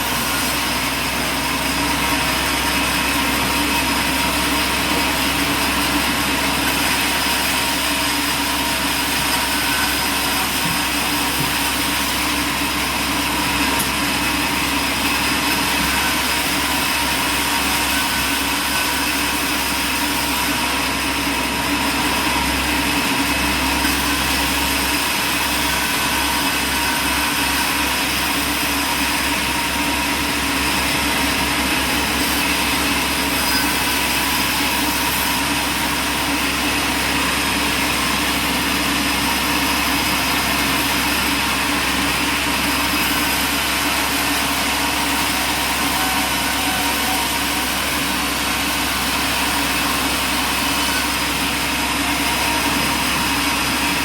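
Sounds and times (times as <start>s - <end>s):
heavy machinery drone with whine: 0.0s - 54.0s.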